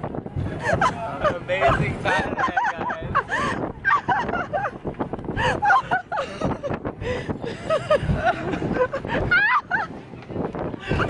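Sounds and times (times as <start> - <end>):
people laughing: 0.5 - 6.8, 7.4 - 10.0.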